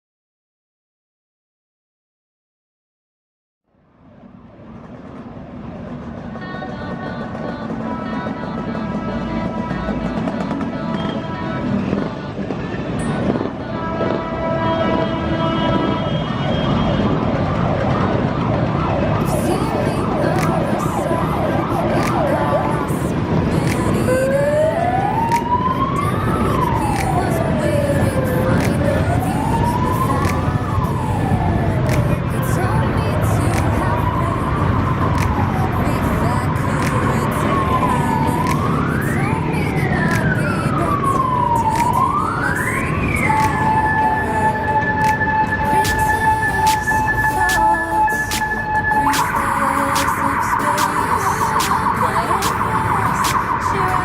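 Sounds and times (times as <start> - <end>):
outdoor background noise: 3.7 - 54.0
vehicle siren sweeping: 7.3 - 54.0.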